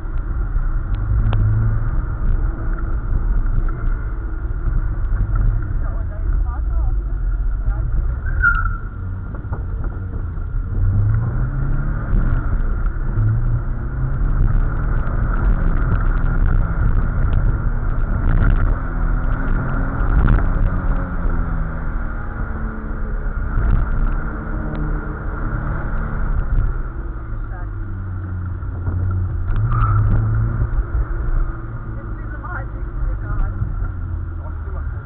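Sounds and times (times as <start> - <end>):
car engine accelerating: 0.0 - 35.0
road noise: 0.0 - 35.0.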